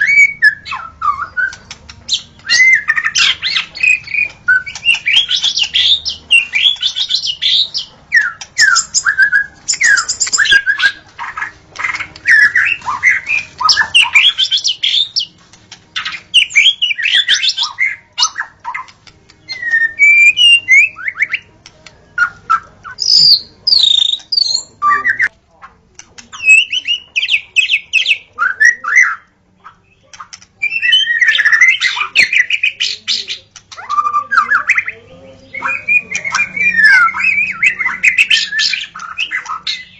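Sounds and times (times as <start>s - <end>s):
bird singing whistled notes: 0.0s - 15.3s, 16.0s - 21.5s, 22.1s - 25.3s, 26.3s - 39.9s
harsh chattering bird calls: 0.0s - 39.9s.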